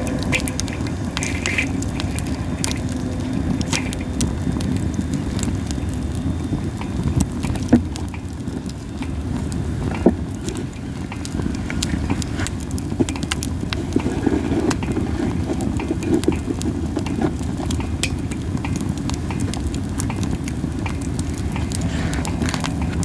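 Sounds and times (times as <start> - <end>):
fire crackles and pops: 0.0 - 23.0
wood fire rumbling: 0.0 - 23.0.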